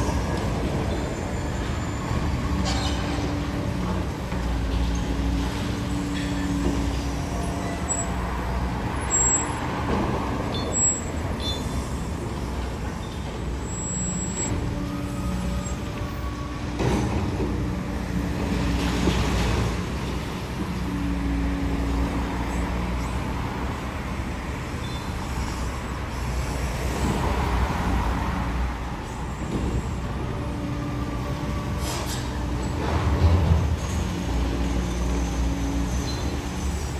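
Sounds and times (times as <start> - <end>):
road traffic passing: 0.0 - 36.9.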